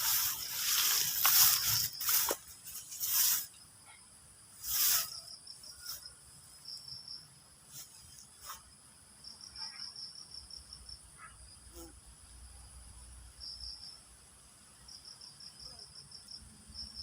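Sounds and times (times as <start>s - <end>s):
crickets buzzing and trilling: 0.0s - 17.0s.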